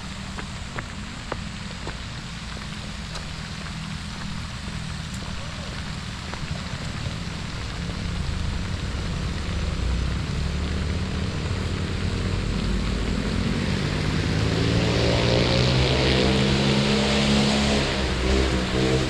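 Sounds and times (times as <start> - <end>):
vehicle engine hum approaching: 0.0 - 19.0.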